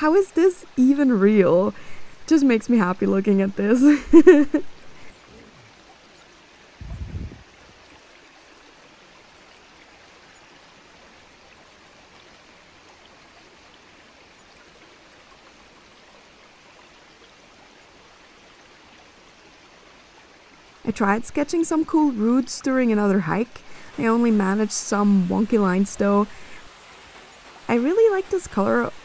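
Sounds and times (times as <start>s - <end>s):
stream running over rocks: 0.0s - 29.0s.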